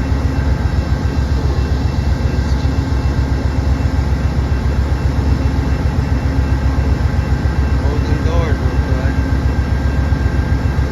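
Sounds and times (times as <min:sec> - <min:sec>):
diesel locomotive idling: 0:00.0 - 0:10.9.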